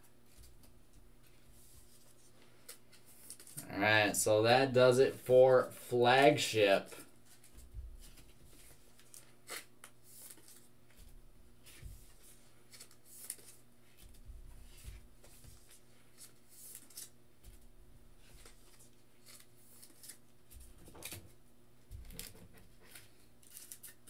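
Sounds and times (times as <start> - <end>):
steady low hum: 0.0 - 23.4
trading cards rustling and clicking: 0.3 - 3.6, 6.2 - 17.6, 18.2 - 21.3, 21.9 - 24.0.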